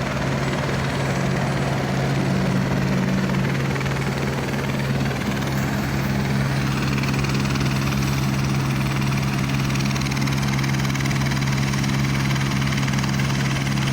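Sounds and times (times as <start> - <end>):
helicopter droning: 0.0 - 13.9.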